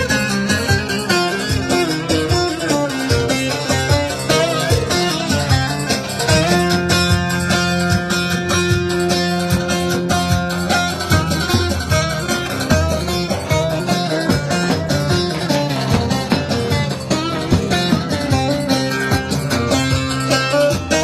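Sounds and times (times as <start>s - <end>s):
amplified melody with sliding notes: 0.0s - 21.0s
bass drum beating: 0.0s - 21.0s.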